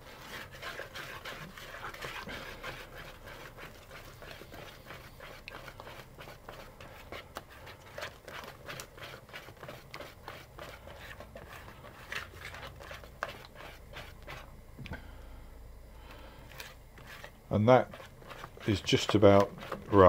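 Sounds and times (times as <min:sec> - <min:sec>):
batter being beaten in a bowl: 0:00.0 - 0:14.5, 0:16.5 - 0:20.0.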